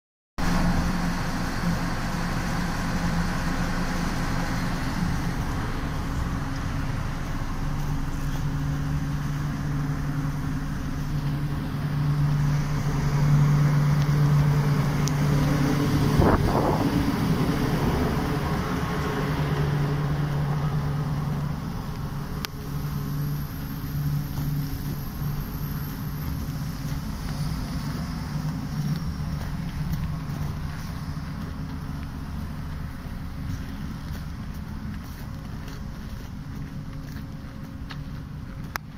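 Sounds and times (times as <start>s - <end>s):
electric train equipment humming: 0.4s - 38.9s.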